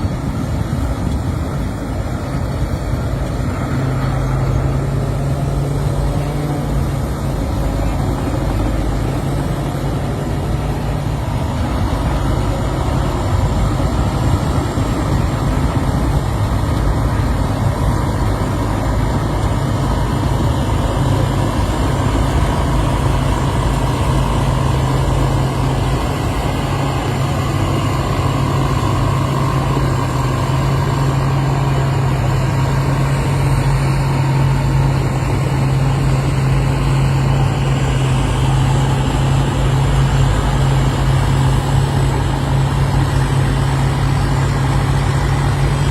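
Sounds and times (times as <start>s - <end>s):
combine harvester engine droning: 0.0s - 45.9s.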